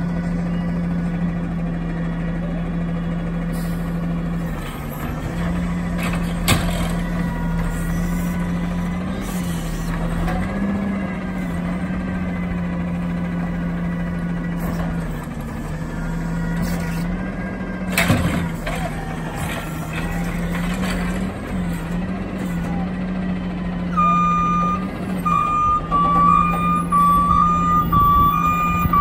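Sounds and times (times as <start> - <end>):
garbage truck running: 0.0 - 29.0.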